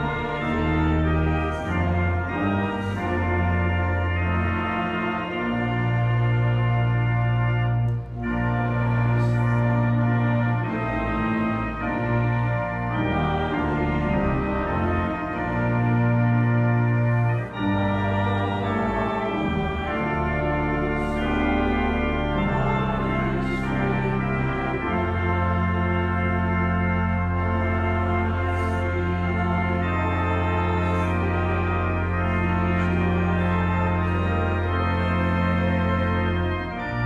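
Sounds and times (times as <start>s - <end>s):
organ playing sustained chords: 0.0s - 37.0s.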